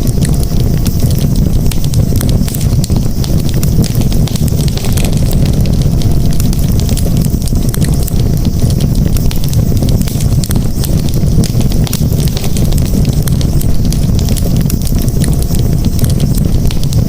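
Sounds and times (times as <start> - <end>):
campfire crackling and popping: 0.0 - 17.0
continuous low rumble: 0.0 - 17.0.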